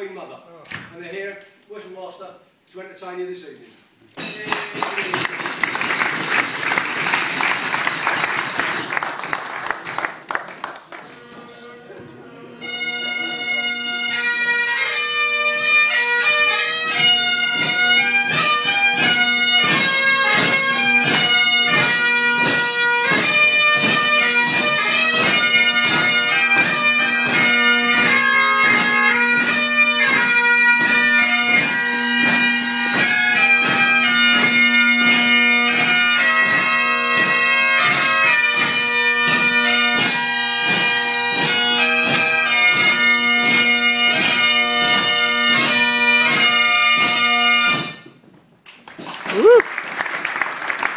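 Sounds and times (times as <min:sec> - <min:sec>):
bagpipes playing: 0:05.4 - 0:09.3, 0:11.1 - 0:48.2.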